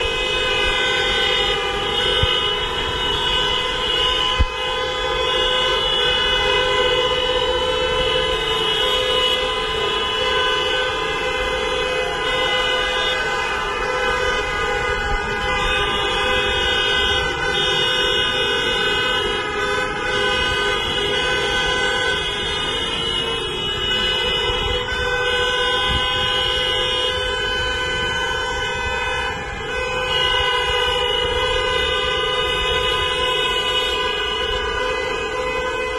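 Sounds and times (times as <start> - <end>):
car horns honking: 0.0 - 35.9.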